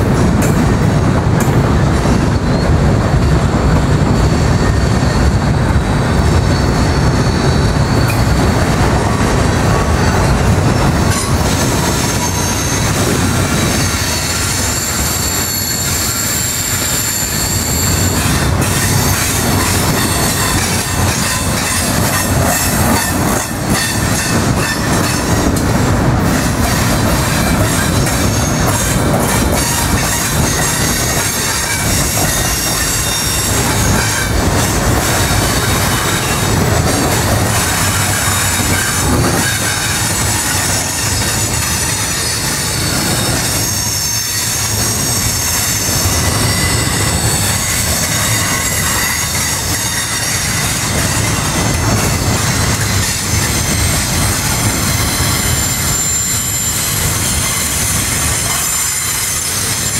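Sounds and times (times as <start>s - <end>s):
train wheels rumbling on rails: 0.0s - 59.9s
high wheel squeal: 2.1s - 25.6s, 26.2s - 59.9s.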